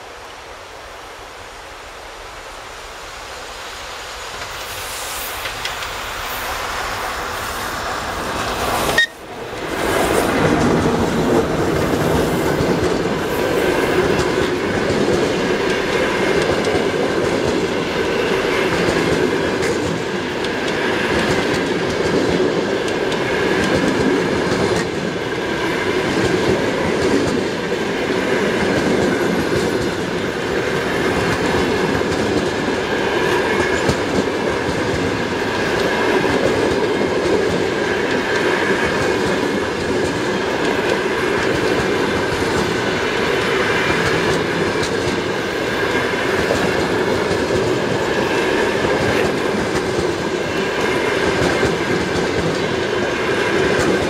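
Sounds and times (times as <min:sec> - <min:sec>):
train wheels rumbling on rails: 0:01.8 - 0:54.0.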